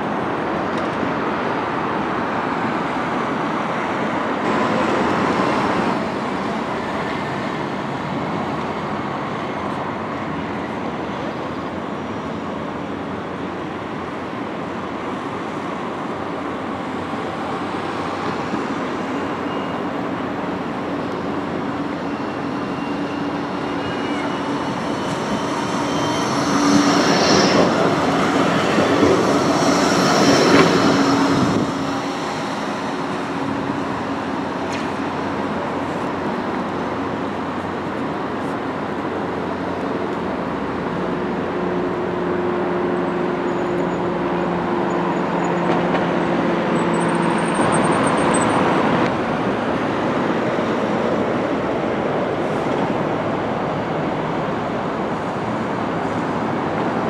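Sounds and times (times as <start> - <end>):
road traffic: 0.0 - 57.0
tram motor whine: 0.0 - 57.0
steel wheels on rail: 2.6 - 57.0.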